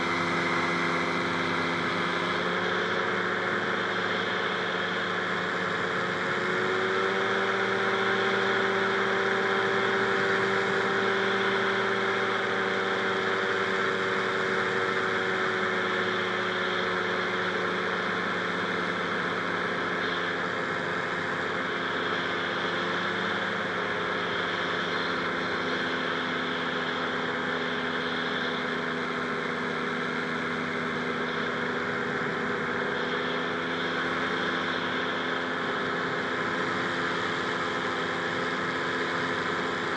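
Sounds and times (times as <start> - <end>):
propeller turning: 0.0 - 39.9
two-stroke engine running: 0.0 - 39.9.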